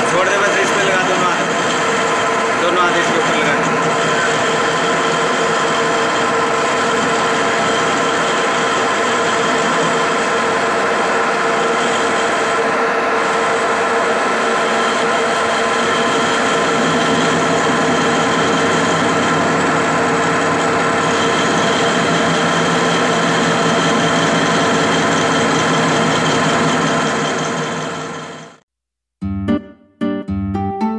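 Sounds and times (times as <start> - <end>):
lathe humming: 0.0 - 28.6.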